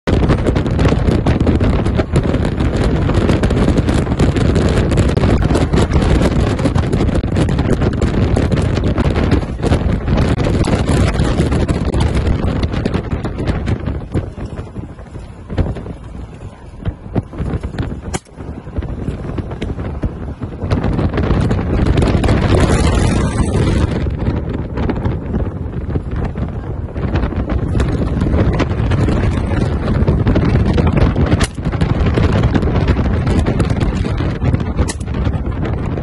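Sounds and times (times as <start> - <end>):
vehicle rumble: 0.0 - 36.0
wind buffeting microphone: 0.0 - 36.0.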